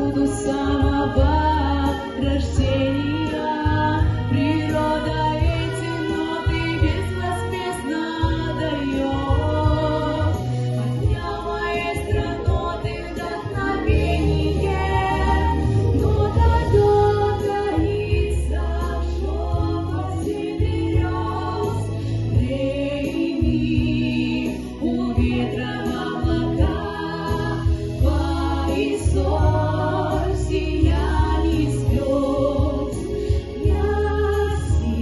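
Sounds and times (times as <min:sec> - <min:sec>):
instrumental backing track: 0:00.0 - 0:35.0
voices singing: 0:00.0 - 0:35.0.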